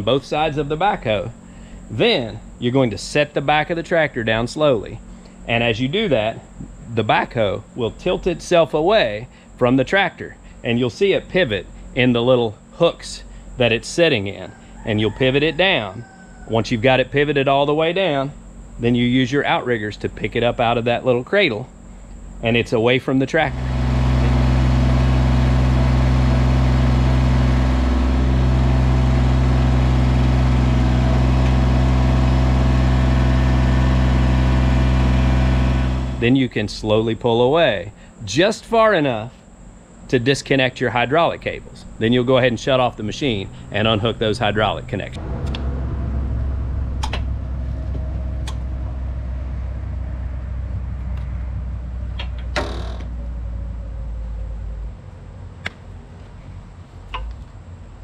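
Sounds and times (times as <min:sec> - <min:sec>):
tractor diesel engine running: 0:00.0 - 0:09.8, 0:10.4 - 0:38.2, 0:39.4 - 0:55.4.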